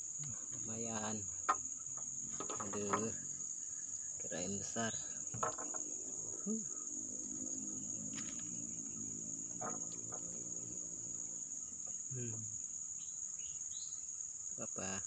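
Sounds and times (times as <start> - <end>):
insects buzzing drone: 0.0 - 15.0.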